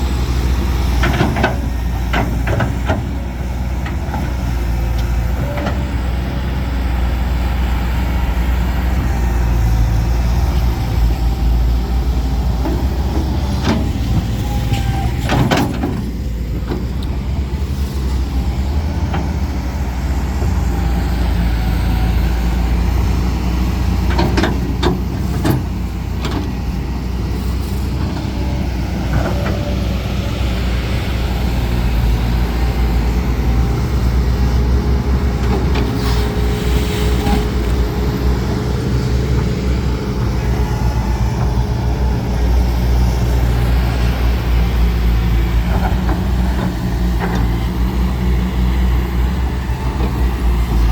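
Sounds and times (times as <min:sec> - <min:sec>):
diesel machinery running: 0:00.0 - 0:50.9.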